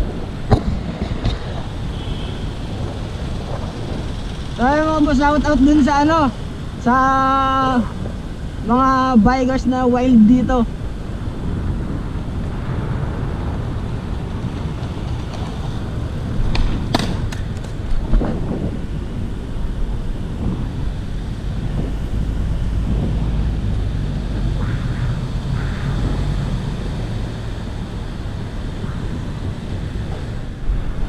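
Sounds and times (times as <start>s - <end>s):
road and traffic noise: 0.0s - 31.0s
wind rumbling on microphone: 0.0s - 31.0s.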